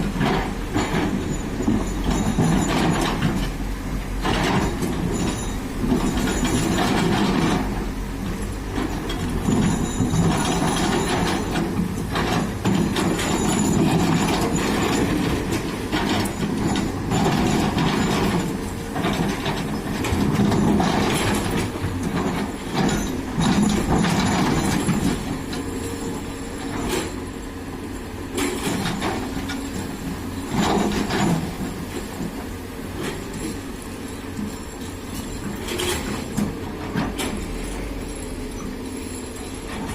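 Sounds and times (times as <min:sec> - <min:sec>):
excavator diesel engine under load: 0:00.0 - 0:39.9.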